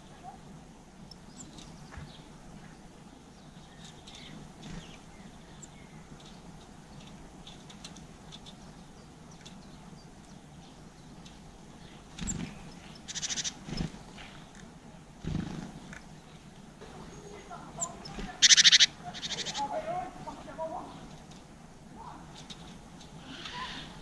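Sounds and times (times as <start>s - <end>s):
low background hum: 0.0s - 24.0s
small birds chirping: 0.0s - 24.0s.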